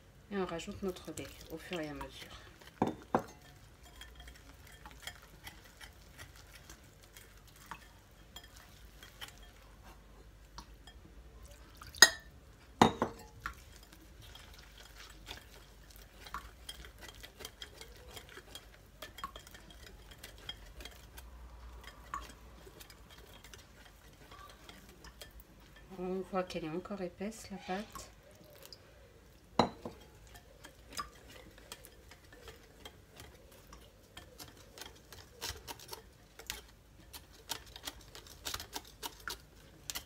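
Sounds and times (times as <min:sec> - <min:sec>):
whisk ticking against glass bowl: 0:00.4 - 0:09.7, 0:12.0 - 0:28.0, 0:29.6 - 0:40.0.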